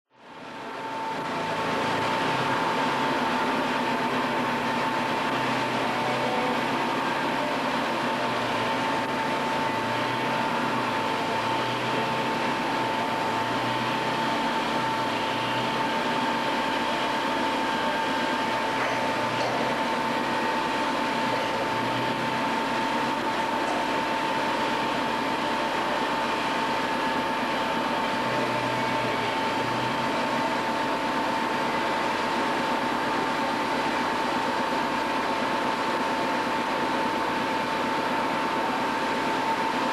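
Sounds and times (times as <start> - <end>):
factory machinery running: 0.2 - 39.9
high-pitched machine whine: 0.2 - 39.9.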